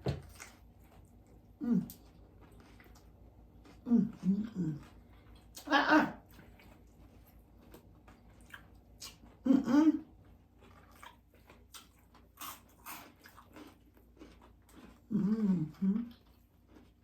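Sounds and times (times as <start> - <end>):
chewing and crunching: 0.0 - 17.0.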